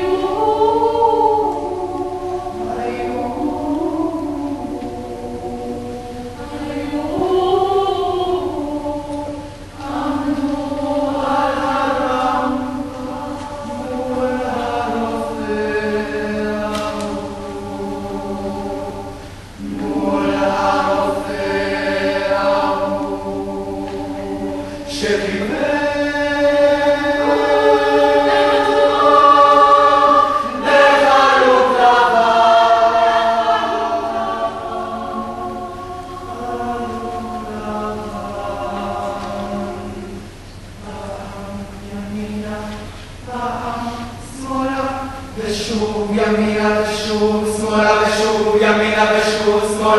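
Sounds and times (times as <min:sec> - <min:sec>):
choir singing sustained chords: 0:00.0 - 0:49.9.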